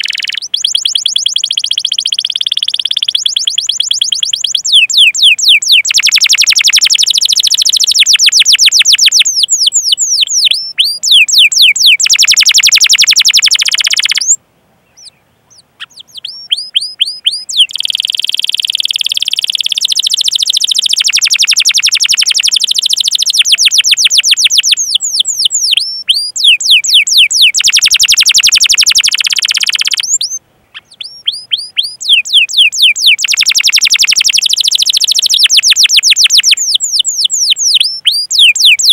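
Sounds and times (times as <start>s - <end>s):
canary singing with trills: 0.0s - 38.9s.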